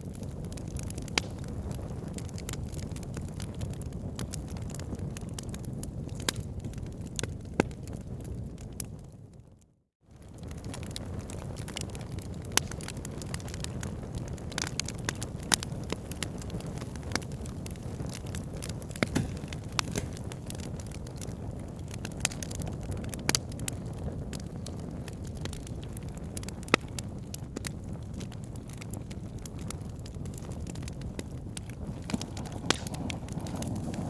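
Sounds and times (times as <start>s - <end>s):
loud fire pops: 0.0s - 8.9s, 10.2s - 34.0s
fire crackling: 0.0s - 9.3s, 10.1s - 34.0s.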